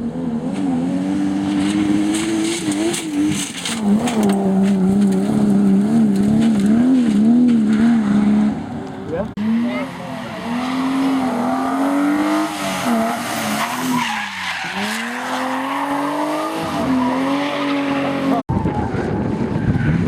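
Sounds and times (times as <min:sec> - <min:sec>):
another car engine: 0:00.0 - 0:20.0
rally car engine at high revs: 0:00.0 - 0:20.0
tyres skidding: 0:00.0 - 0:20.0.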